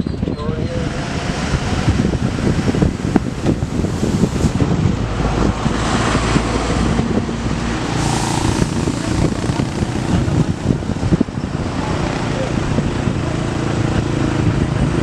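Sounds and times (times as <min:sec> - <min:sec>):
wind buffeting microphone: 0:00.0 - 0:15.0
jet engines running: 0:00.8 - 0:15.0.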